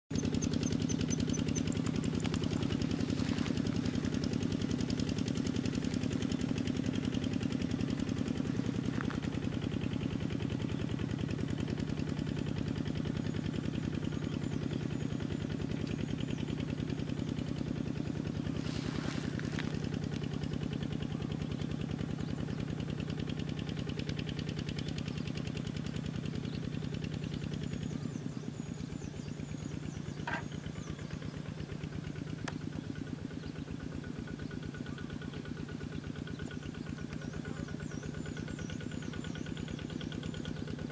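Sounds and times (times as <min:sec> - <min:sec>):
small engine chugging: 0:00.1 - 0:40.9.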